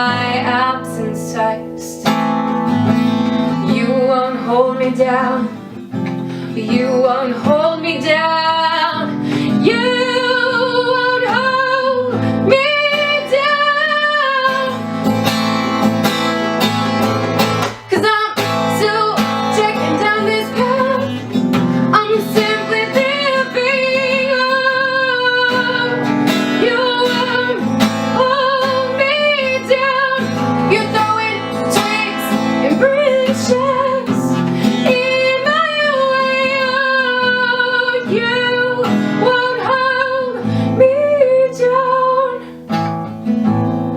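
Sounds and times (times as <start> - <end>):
woman singing: 0.0 - 15.7, 17.6 - 43.6
acoustic guitar strumming: 0.0 - 43.9.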